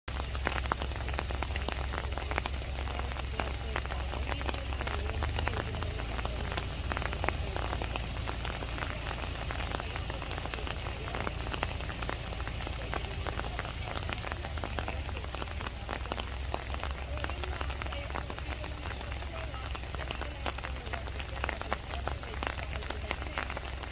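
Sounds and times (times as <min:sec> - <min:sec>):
constant low rumble: 0:00.0 - 0:23.9
rain pattering: 0:00.0 - 0:23.9.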